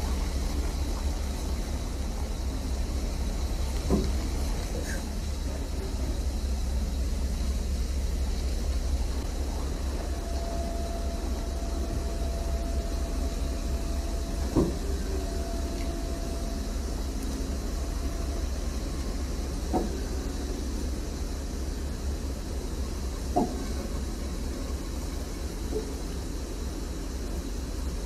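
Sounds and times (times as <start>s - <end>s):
heavy vehicle engine rumble: 0.0s - 28.0s
thin steady whine: 0.0s - 28.0s.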